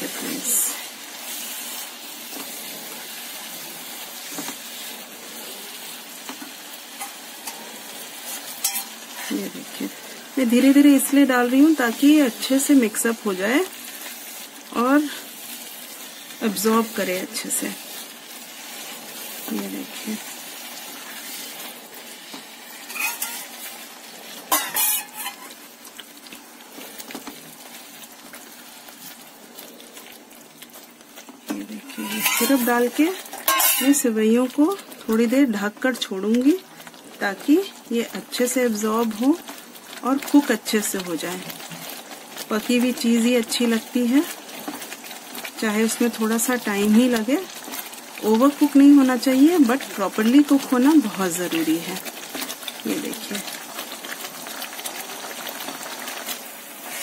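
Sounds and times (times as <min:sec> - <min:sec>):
noodles sizzling in a pan: 0:00.0 - 0:57.0.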